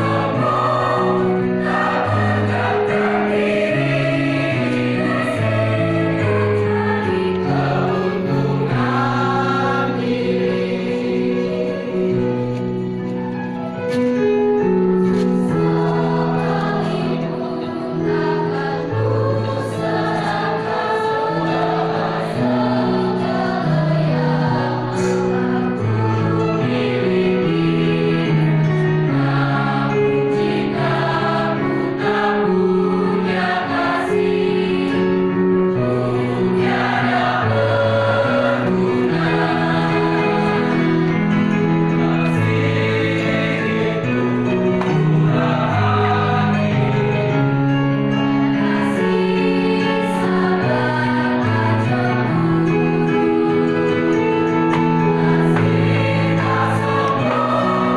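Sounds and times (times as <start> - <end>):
youth choir singing: 0.0 - 12.6, 15.0 - 57.9.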